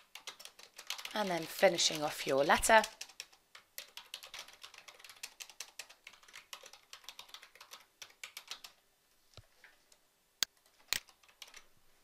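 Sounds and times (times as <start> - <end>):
keyboard typing: 0.0 - 8.8, 10.4 - 11.7.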